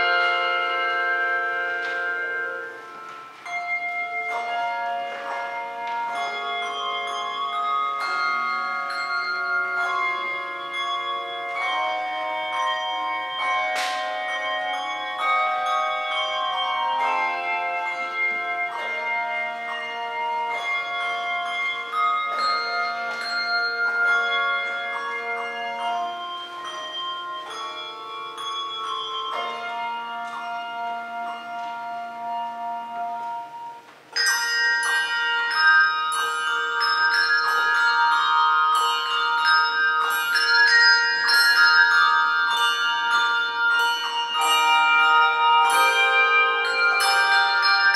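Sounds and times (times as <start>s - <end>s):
handbell choir playing: 0.0s - 47.9s.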